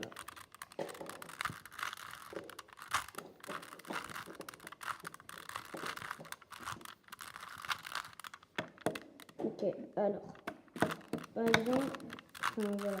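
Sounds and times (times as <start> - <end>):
puzzle cube twisting clicks: 0.0 - 9.4, 10.3 - 13.0.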